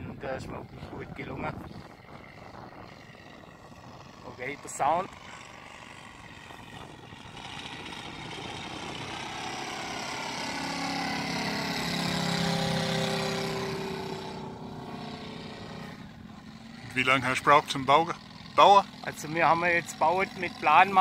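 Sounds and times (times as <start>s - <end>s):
model plane engine passing overhead: 0.0s - 21.0s.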